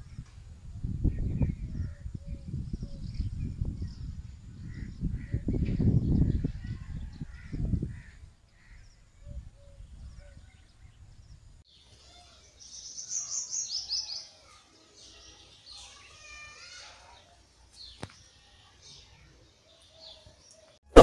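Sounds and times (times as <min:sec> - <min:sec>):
songbirds chirping: 0:00.0 - 0:20.8.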